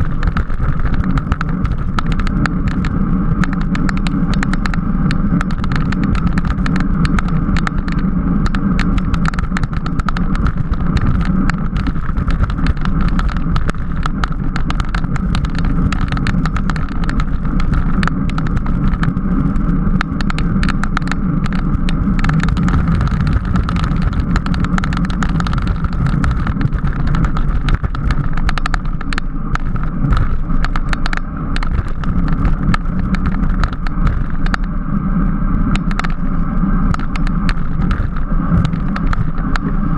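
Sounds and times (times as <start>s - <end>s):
bicycle rattles and ticks: 0.0s - 39.9s
road rumble: 0.0s - 39.9s
wind rush: 0.0s - 39.9s.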